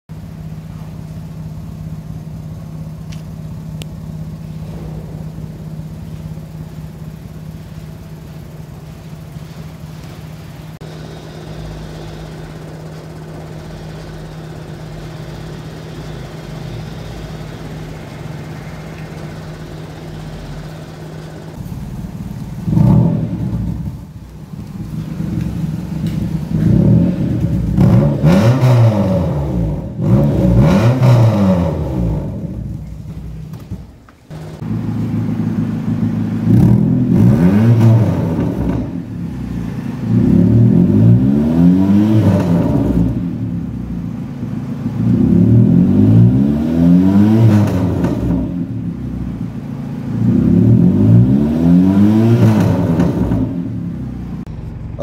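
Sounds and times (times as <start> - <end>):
car engine idling and revving: 0.1 - 55.0.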